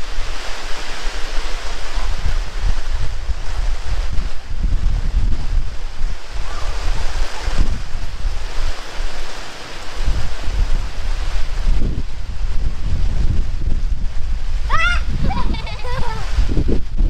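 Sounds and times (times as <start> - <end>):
heavy rain pouring: 0.0 - 17.0
wind gusts rumbling on microphone: 0.0 - 17.0.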